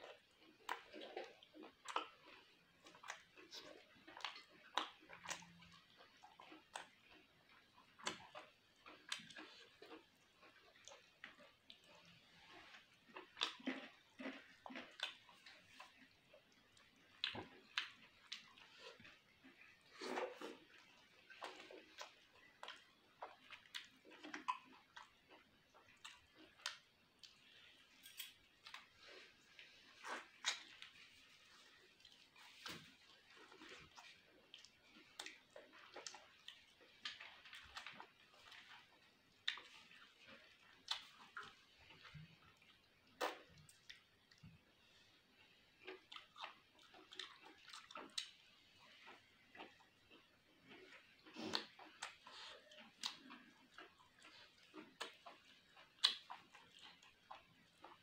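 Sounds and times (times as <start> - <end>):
close chewing: 0.0 - 58.0
person eating with hands: 0.0 - 58.0
wet lip smacks and mouth clicks: 0.1 - 16.0, 17.1 - 27.6, 28.6 - 44.6, 45.9 - 58.0.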